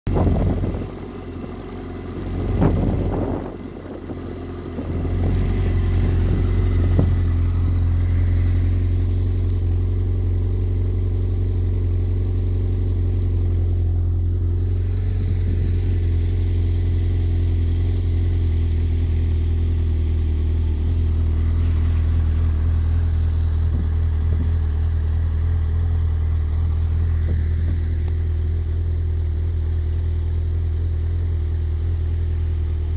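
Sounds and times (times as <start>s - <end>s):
snowmobile engine drone: 0.1s - 32.9s.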